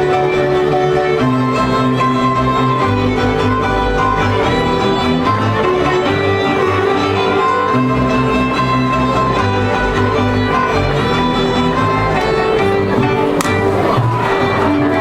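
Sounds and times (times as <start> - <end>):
bass line: 0.0 - 15.0
fiddle playing dance tune: 0.0 - 15.0.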